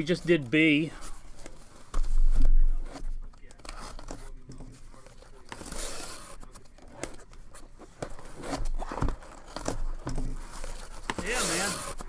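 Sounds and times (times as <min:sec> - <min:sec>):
cardboard scraping and rustling: 0:01.0 - 0:12.0.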